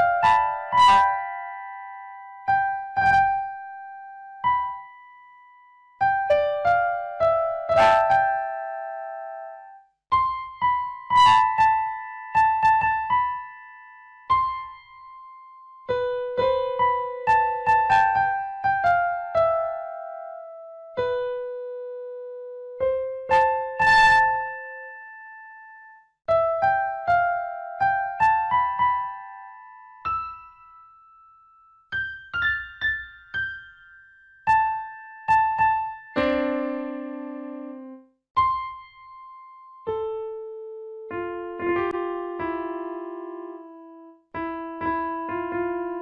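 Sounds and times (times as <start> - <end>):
slow electric piano melody: 0.0 - 46.0.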